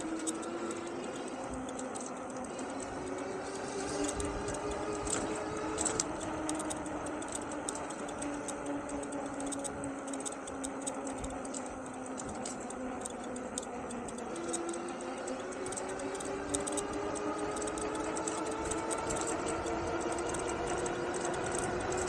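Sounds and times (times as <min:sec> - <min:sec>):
electric bike motor whining: 0:00.0 - 0:22.0
light irregular ticking: 0:00.0 - 0:22.0
rising motor whine: 0:00.0 - 0:22.0.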